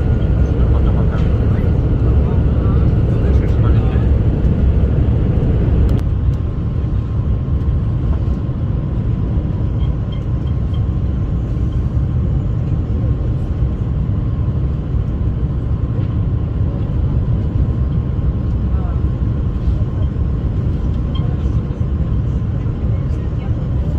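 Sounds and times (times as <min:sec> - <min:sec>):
airliner engine rumble: 0:00.0 - 0:23.9.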